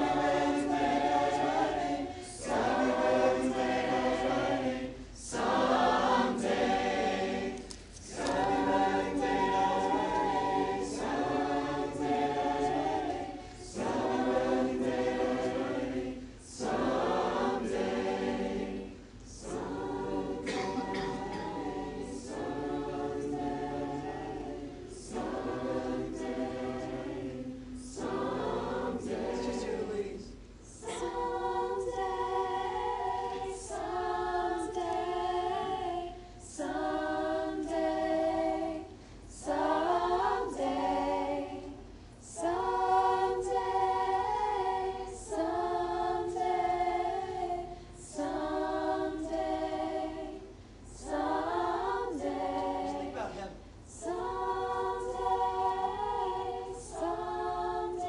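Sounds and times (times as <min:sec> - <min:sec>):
choir singing a hymn a cappella: 0:00.0 - 0:58.0.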